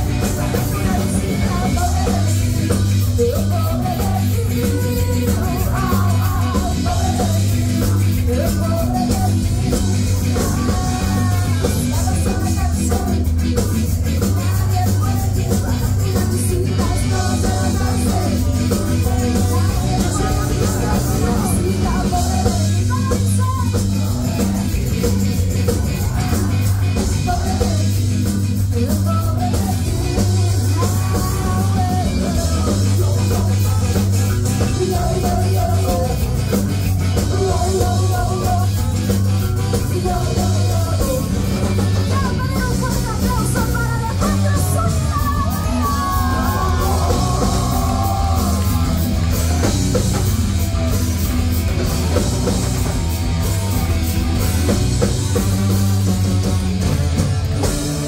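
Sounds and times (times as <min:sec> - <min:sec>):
sung and shouted vocals: 0:00.0 - 0:50.3
rock band with horns playing: 0:00.0 - 0:58.0.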